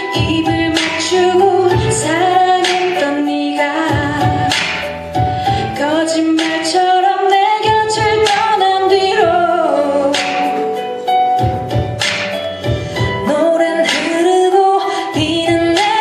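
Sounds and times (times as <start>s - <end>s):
women singing pop song: 0.0s - 10.9s, 12.8s - 16.0s
backing music with drum beat: 0.0s - 16.0s.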